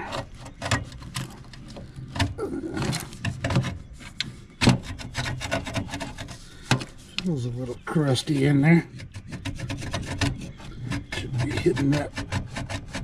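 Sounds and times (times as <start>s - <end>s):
wire brush scraping in a port: 0.0s - 13.0s.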